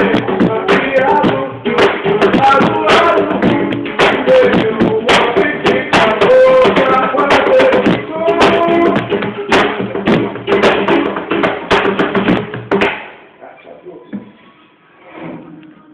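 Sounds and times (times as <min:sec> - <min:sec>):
sharp percussive strikes: 0:00.0 - 0:13.2.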